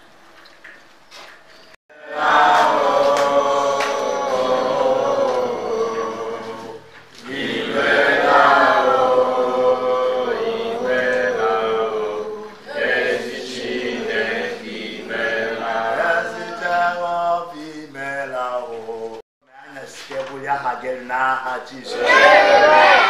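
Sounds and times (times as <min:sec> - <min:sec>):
voices singing a chant: 0:01.9 - 0:19.2, 0:21.6 - 0:23.0.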